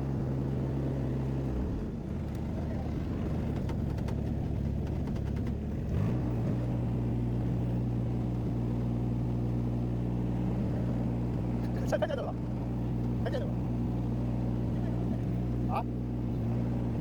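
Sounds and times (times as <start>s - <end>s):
skid steer engine running: 0.0s - 17.0s.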